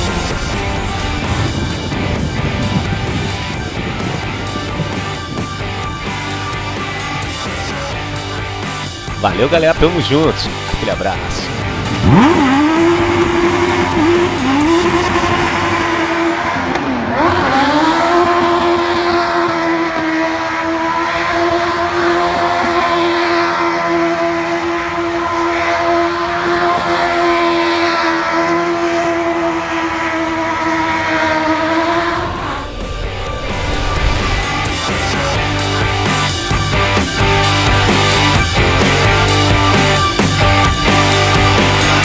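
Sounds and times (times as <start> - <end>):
car engine at high revs: 0.0 - 42.0
tyres squealing on asphalt: 0.0 - 42.0.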